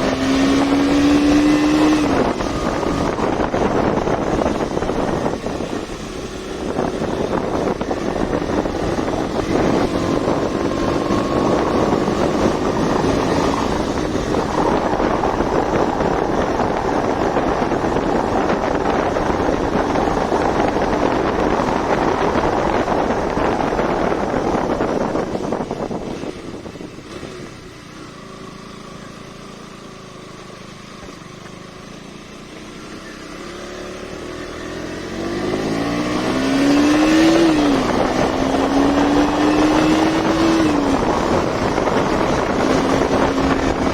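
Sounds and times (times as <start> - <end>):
wind rush on microphone: 0.0 - 28.1, 33.9 - 43.9
motorcycle engine running: 0.0 - 43.9.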